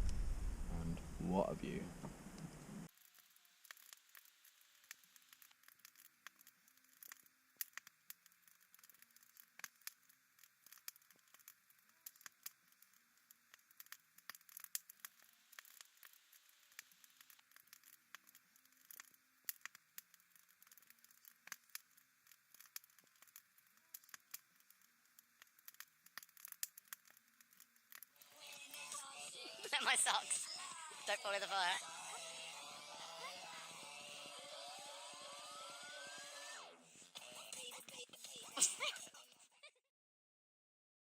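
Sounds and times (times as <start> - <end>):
wood fire crackling: 0.0 - 37.1.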